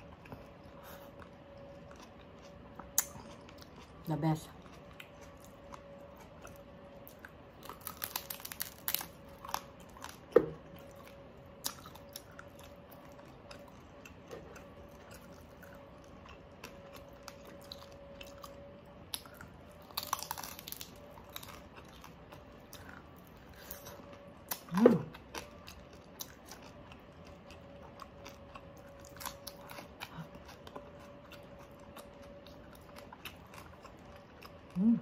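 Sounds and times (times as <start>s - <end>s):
chewing crispy skin: 0.0s - 35.0s.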